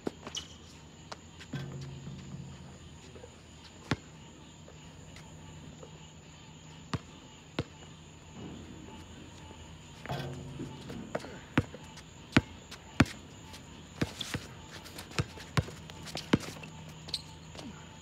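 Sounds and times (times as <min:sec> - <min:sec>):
basketball bouncing on asphalt: 0:00.1 - 0:05.6, 0:06.9 - 0:08.6, 0:09.5 - 0:17.7.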